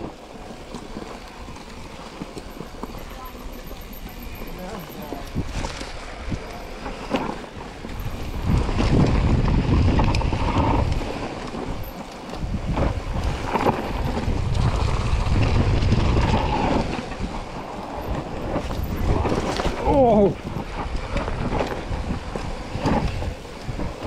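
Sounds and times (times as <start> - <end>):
bike rattling and knocking: 0.0 - 24.0
wind buffeting microphone: 0.0 - 24.0.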